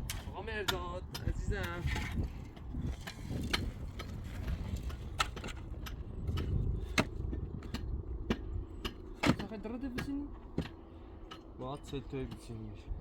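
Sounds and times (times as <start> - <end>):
construction knocks and clicks: 0.0 - 12.6
low steady rumble: 0.0 - 13.0.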